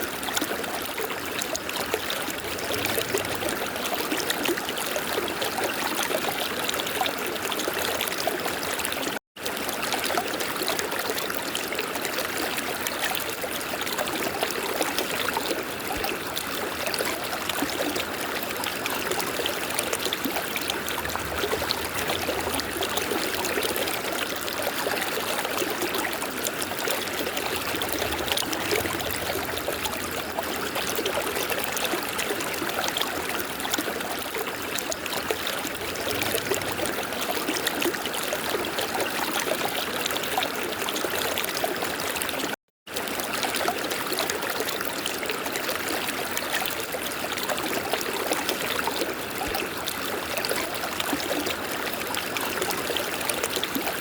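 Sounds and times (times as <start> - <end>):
river water flowing: 1.4 - 54.0.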